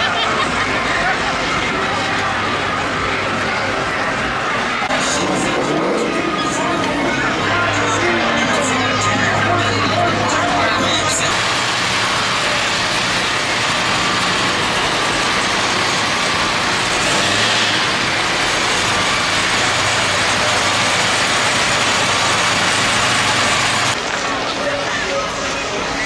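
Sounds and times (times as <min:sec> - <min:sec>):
car engine running loudly: 0:00.0 - 0:26.0.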